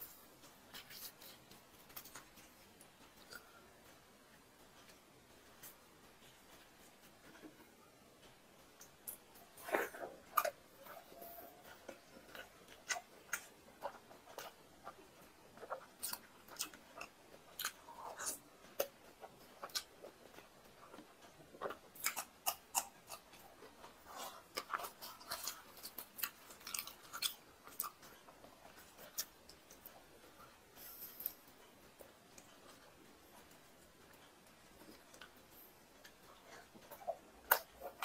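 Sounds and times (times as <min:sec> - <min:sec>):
person chewing food: 0:00.0 - 0:38.0.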